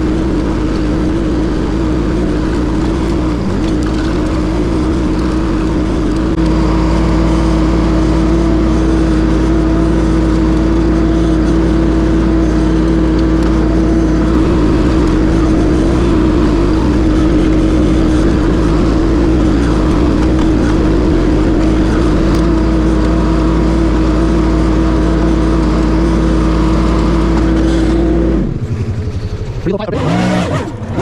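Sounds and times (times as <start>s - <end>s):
loader engine running hard: 0.0s - 31.0s.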